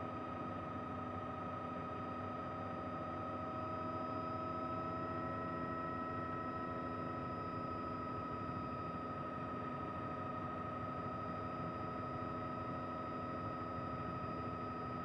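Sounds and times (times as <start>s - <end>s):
helicopter turbine whine: 0.1s - 15.0s.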